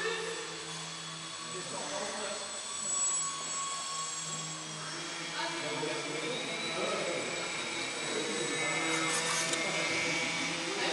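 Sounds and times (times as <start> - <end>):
small electric motor whine: 0.0 - 10.9.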